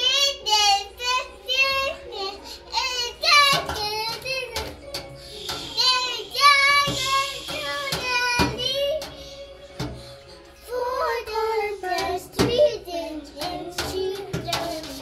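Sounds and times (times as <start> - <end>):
girl singing in high voice: 0.0 - 9.9, 10.6 - 15.0
music playing: 0.0 - 15.0.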